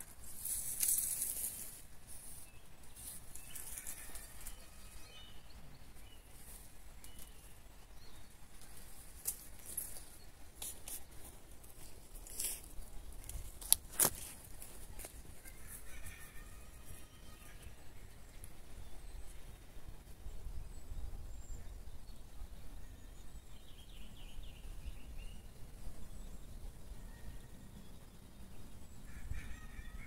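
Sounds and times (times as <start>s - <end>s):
light steady hiss: 0.0s - 29.2s.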